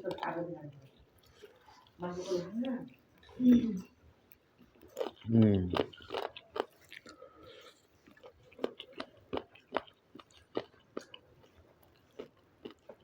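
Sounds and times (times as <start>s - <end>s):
chewing with wet mouth smacks: 0.0s - 13.0s.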